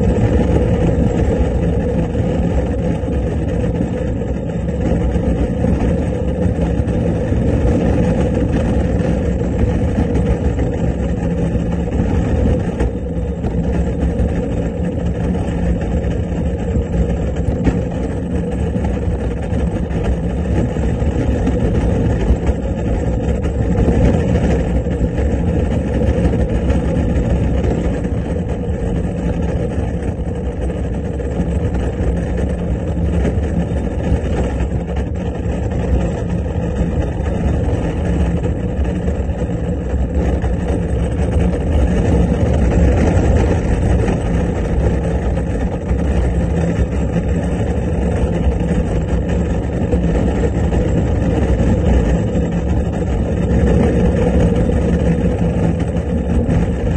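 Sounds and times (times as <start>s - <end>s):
wheels rumbling on tarmac: 0.0s - 56.9s.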